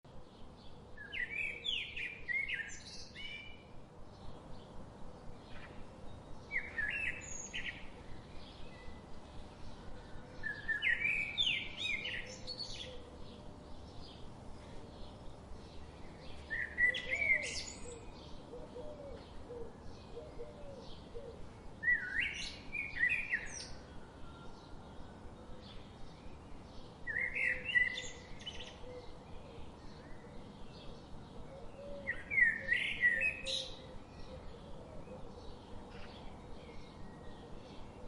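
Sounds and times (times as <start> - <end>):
songbird singing loud phrase: 0.1 - 38.0.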